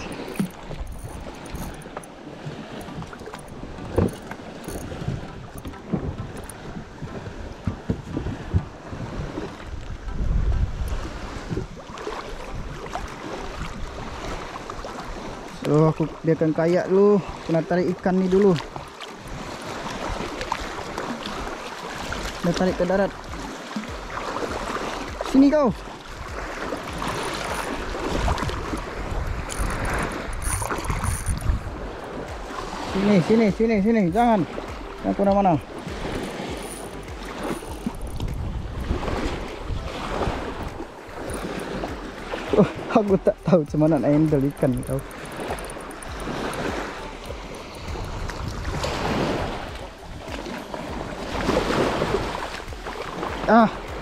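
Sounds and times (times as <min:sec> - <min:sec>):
shallow water sloshing: 0:00.0 - 0:09.8, 0:10.9 - 0:54.0
wind rumbling on microphone: 0:00.0 - 0:54.0.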